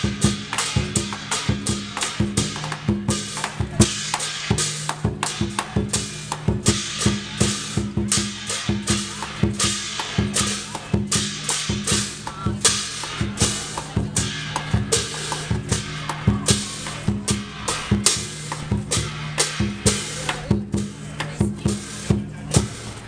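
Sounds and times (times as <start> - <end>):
barrel drum beating fast: 0.0 - 23.0
hand cymbals: 0.0 - 23.0.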